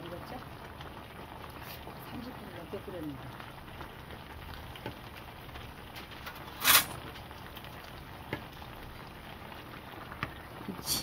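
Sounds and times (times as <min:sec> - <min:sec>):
stew bubbling in a pan: 0:00.0 - 0:11.0.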